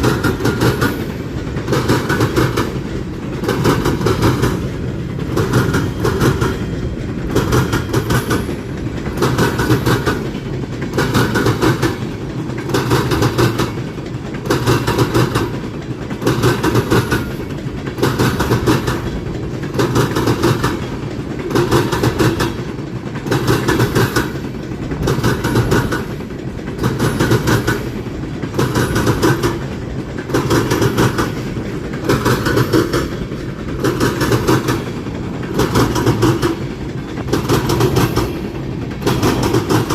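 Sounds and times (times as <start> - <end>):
train wheels clacking: 0.0 - 39.9.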